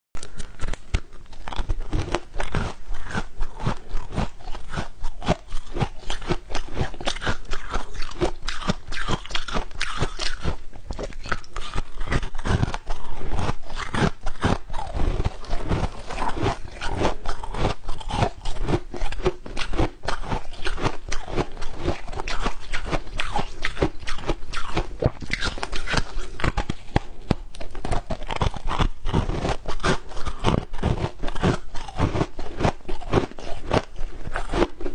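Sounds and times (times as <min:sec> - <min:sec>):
chewing crunchy ice: 0:00.2 - 0:34.9.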